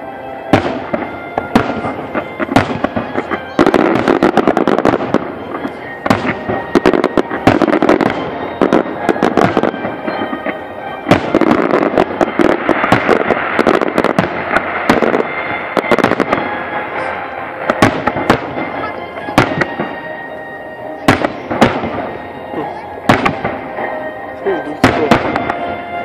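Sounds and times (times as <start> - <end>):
background noise: 0.0 - 26.0
firework shells bursting: 0.5 - 24.2.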